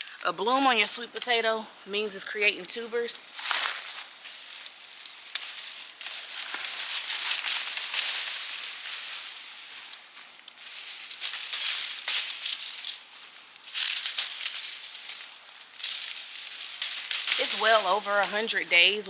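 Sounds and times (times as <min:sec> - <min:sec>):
leaves rustling and crackling: 0:00.0 - 0:19.0.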